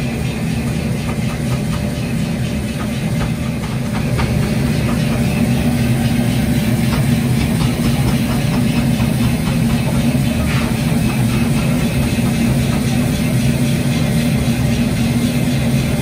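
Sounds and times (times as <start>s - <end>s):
low machine drone: 0.0s - 16.0s
water boiling off hot steel: 0.0s - 16.0s.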